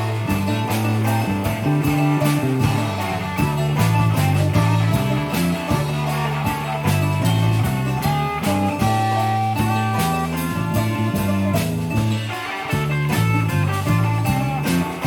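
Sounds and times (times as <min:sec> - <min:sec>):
drum kit beat: 0:00.0 - 0:15.0
electric bass line: 0:00.0 - 0:15.0
electric guitar: 0:00.0 - 0:15.0
viola caipira: 0:00.0 - 0:15.0.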